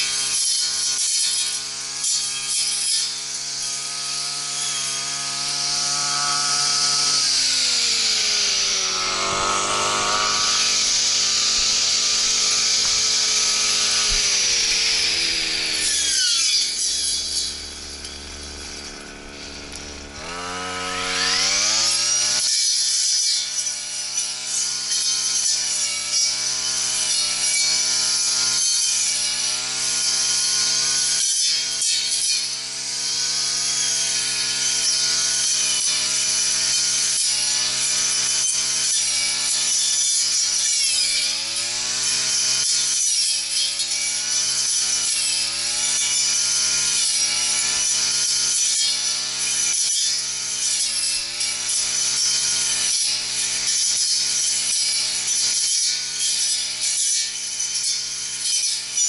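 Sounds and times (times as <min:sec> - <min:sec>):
brush cutter engine cutting grass: 0:00.0 - 0:59.0.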